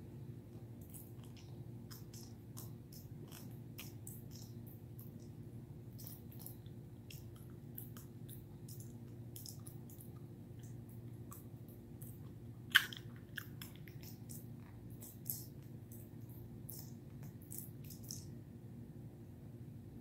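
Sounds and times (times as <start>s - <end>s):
puppy gnawing on a chew: 0.8s - 5.3s, 6.0s - 18.3s.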